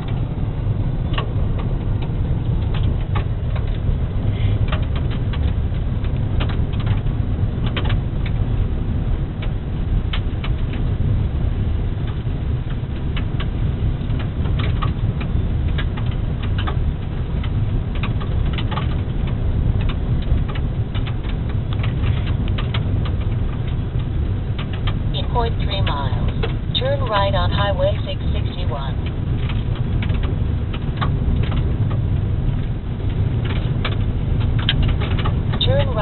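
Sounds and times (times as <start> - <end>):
tyres and engine rumbling: 0.0 - 36.0.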